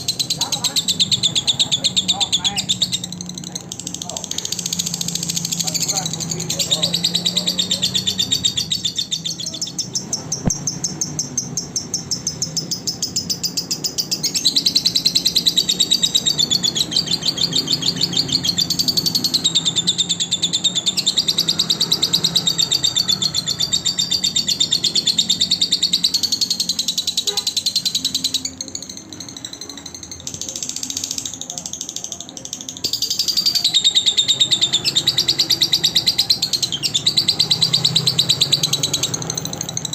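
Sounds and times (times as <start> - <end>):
lovebird trilling chatter: 0.0 - 39.9.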